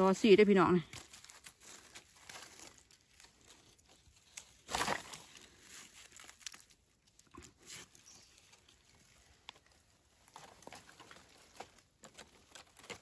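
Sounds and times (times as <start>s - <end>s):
rustling of dry leaves and twigs: 0.0s - 13.0s.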